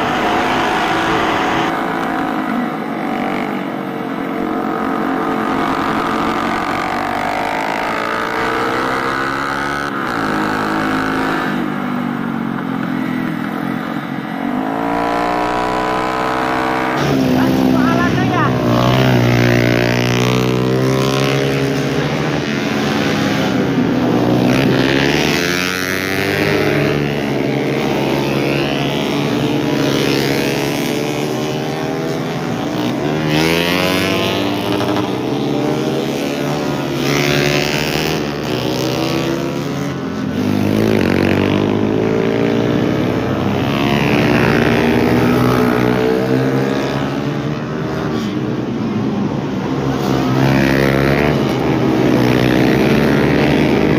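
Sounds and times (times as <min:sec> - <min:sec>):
racing motorcycles revving past: 0:00.0 - 0:53.9.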